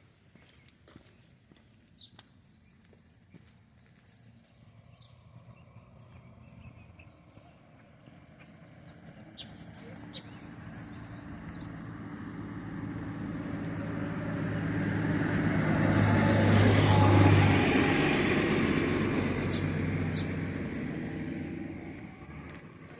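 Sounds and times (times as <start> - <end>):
vehicle driving past: 4.3 - 22.9.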